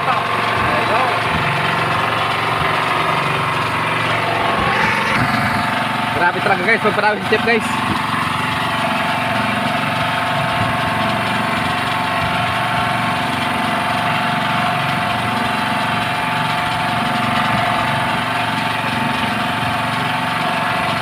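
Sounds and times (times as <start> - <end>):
portable generator engine running: 0.0 - 21.0.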